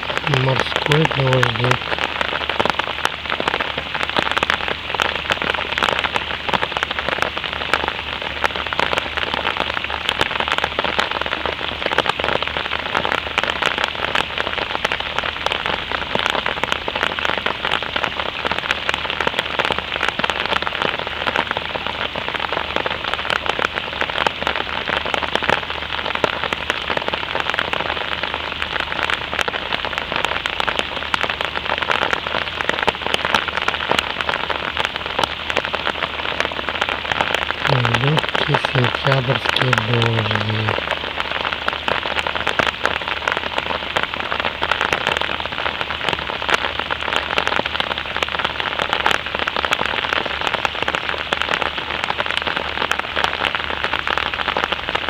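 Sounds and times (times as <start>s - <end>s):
light rain falling: 0.0s - 55.0s.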